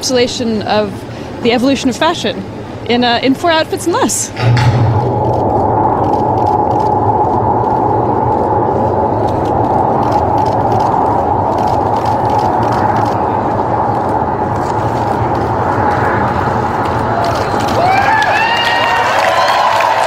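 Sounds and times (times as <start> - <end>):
droning rumble: 0.5 - 20.0.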